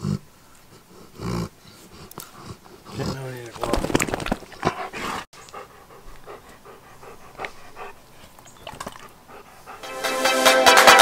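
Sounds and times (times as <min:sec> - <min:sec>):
dog panting: 0:00.0 - 0:03.5, 0:04.4 - 0:10.1.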